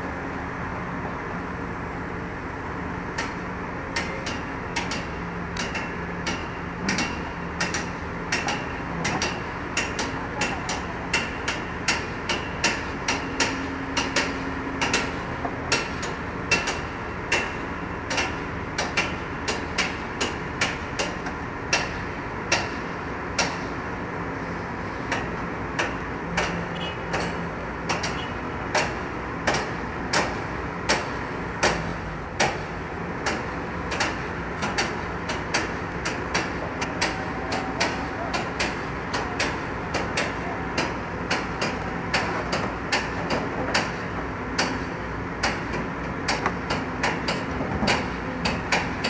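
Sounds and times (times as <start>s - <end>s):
excavator engines running: 0.0s - 49.0s.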